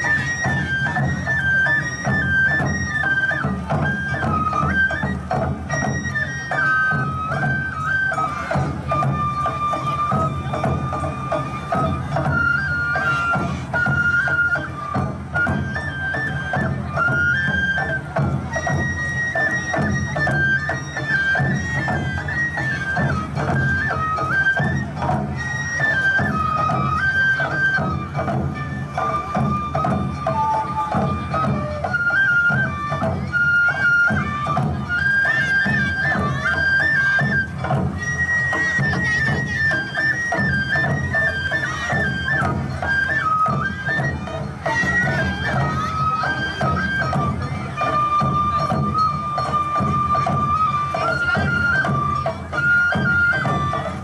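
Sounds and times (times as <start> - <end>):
bamboo flute melody: 0.0 - 54.0
drums and percussion beat: 0.0 - 54.0.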